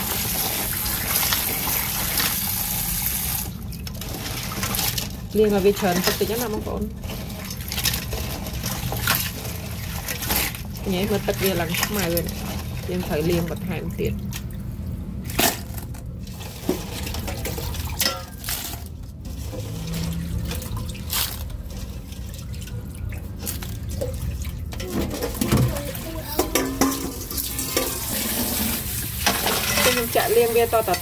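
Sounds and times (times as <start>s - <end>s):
water splashing and trickling: 0.0s - 31.0s.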